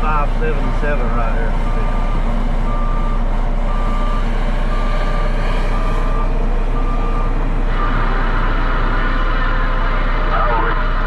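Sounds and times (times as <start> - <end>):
diesel engine running: 0.0 - 11.0
reversing alarm beeping: 0.0 - 11.0.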